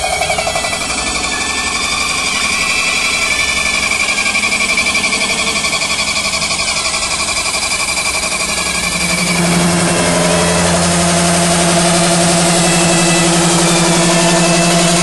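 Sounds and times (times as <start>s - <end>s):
low hum: 0.0s - 15.0s
metal spinning machine running: 0.0s - 15.0s.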